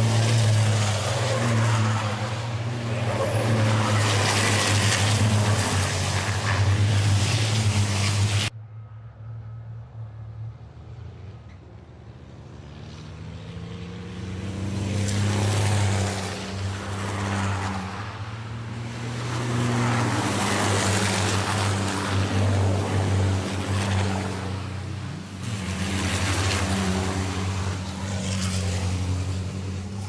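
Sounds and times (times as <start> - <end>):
truck diesel engines droning: 0.0 - 11.6, 13.9 - 30.0.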